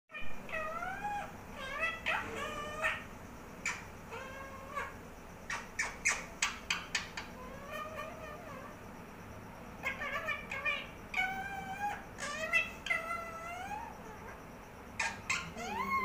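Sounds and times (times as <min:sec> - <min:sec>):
parakeet squeaky calls: 0:00.2 - 0:08.7, 0:09.8 - 0:14.4, 0:15.0 - 0:16.0.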